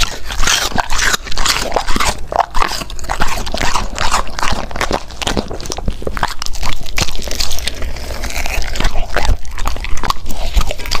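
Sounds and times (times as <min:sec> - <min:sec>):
dog chewing crunchy pastry: 0:00.0 - 0:11.0.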